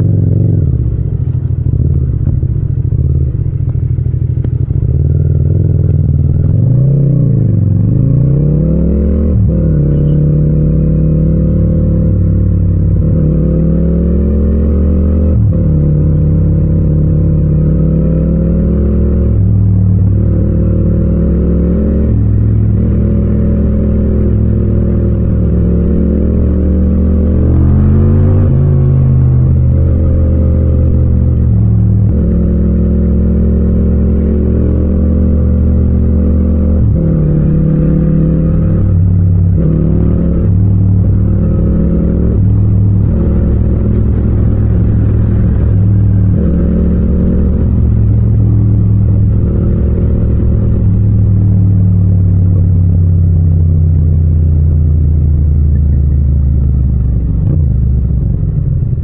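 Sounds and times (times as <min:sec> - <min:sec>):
motorcycle engine under way: 0:00.0 - 0:59.0.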